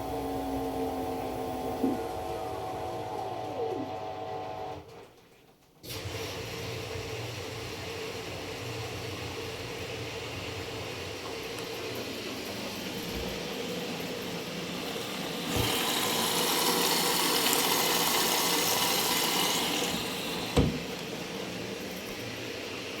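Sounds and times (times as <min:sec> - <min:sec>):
washing machine spin hum: 0:00.0 - 0:04.8, 0:05.9 - 0:23.0.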